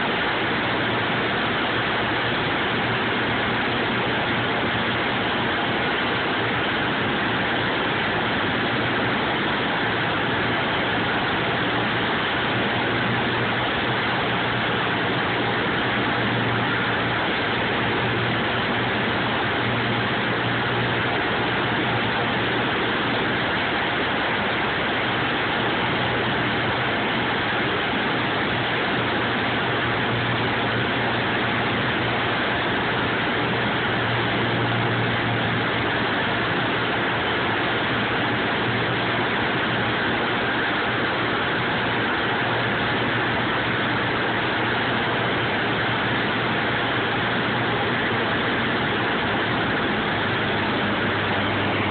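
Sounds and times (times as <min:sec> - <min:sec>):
light aircraft engine droning: 0:00.0 - 0:51.9.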